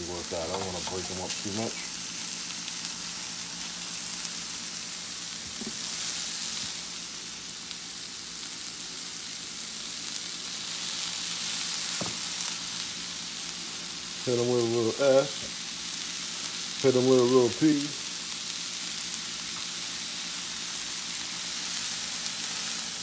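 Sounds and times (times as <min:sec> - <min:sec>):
mushrooms sizzling in fat: 0:00.0 - 0:23.0.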